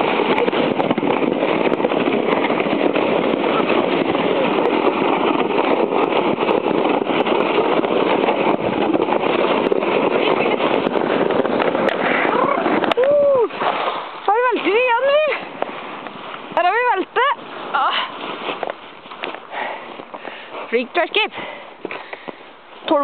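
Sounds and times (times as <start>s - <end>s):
sled runners scraping snow: 0.0s - 23.0s.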